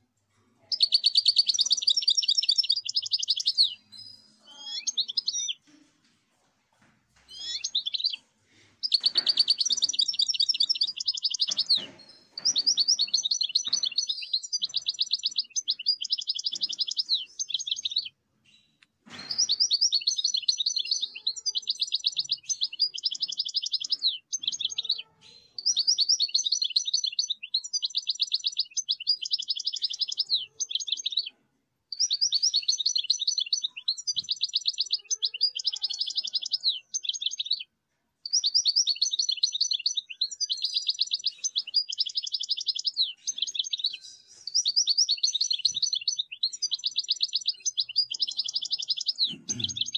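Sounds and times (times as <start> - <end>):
bird twittering: 0.7 - 3.8, 4.4 - 5.6, 7.3 - 8.2, 8.8 - 18.1, 19.2 - 25.0, 25.6 - 31.3, 31.9 - 37.7, 38.3 - 49.9.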